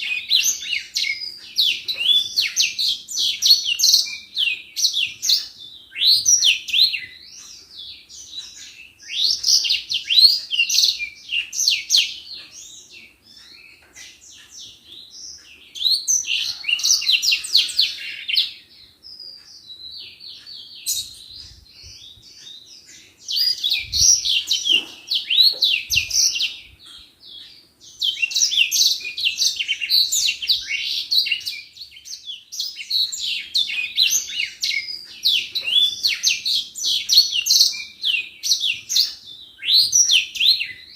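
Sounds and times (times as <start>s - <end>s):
bird twittering and warbling: 0.0s - 40.9s.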